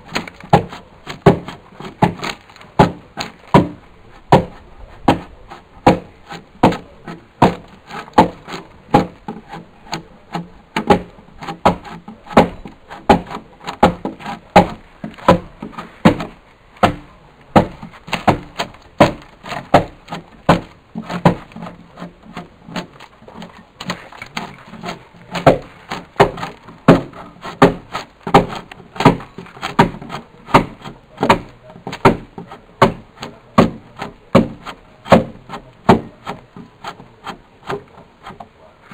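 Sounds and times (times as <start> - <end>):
drawknife shaving wood: 0.0 - 38.9.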